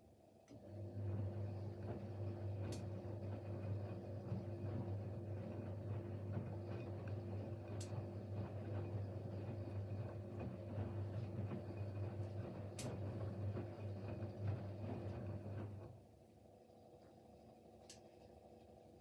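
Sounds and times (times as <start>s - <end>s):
washing machine motor humming: 0.5s - 16.0s.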